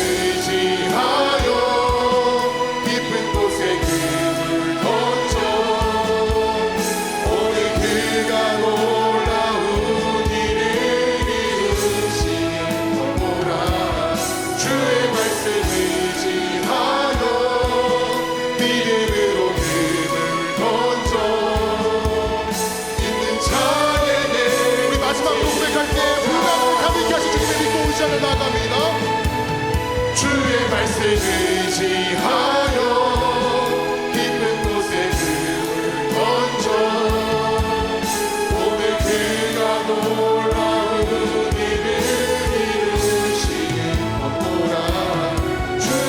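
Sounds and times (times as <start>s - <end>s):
band with steady drum beat: 0.0s - 46.0s
congregation singing praise song: 0.0s - 46.0s.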